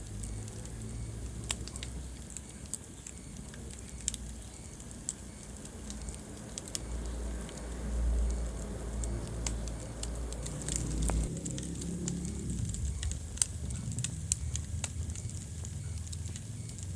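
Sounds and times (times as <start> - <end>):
low rumble of flames: 0.0 - 16.9
wood fire crackling and popping: 0.0 - 16.9.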